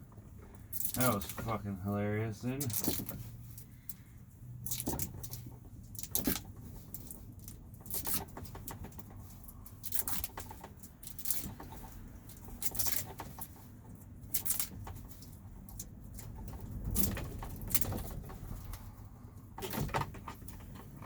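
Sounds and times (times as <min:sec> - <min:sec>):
hands rustling and scraping wiring: 0:00.0 - 0:21.0.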